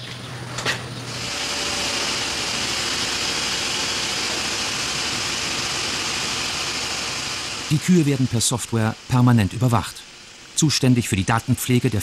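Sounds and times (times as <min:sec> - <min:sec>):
machine running hiss: 0:00.8 - 0:12.0.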